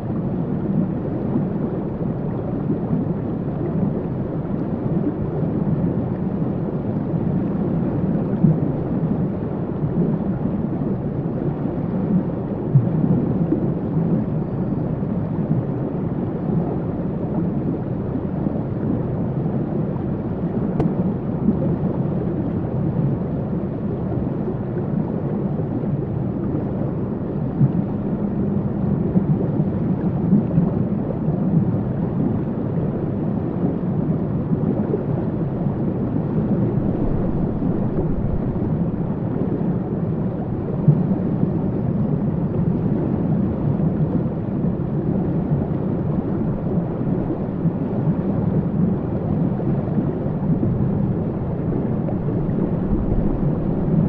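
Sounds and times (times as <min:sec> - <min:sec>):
deep rushing water: 0:00.0 - 0:54.0.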